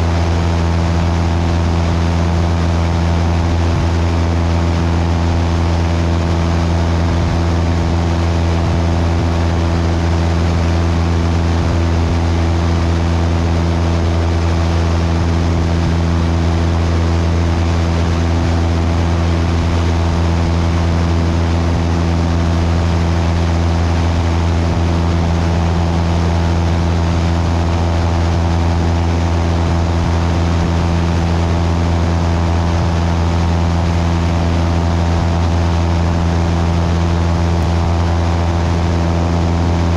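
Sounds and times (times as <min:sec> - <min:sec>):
airplane engine droning: 0:00.0 - 0:39.9.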